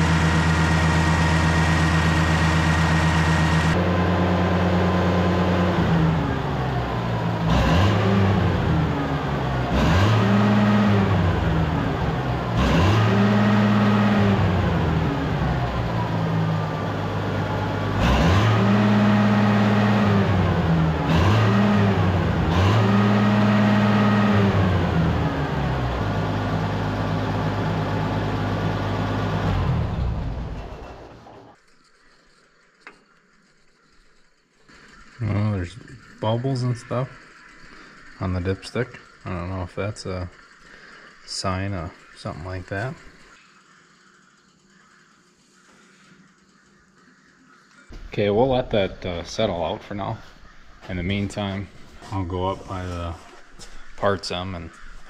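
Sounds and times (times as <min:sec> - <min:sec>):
tractor engine revving and idling: 0:00.0 - 0:31.6, 0:34.6 - 0:43.4, 0:47.9 - 0:55.0.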